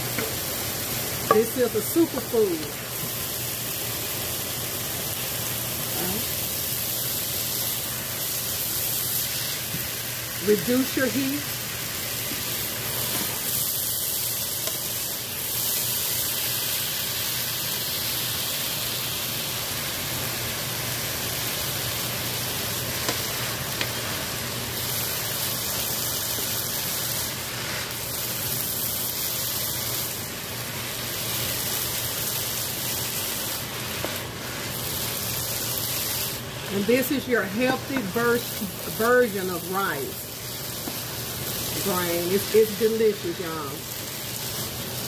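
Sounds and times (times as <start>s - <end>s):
vegetables sizzling in a frying pan: 0.0s - 45.0s.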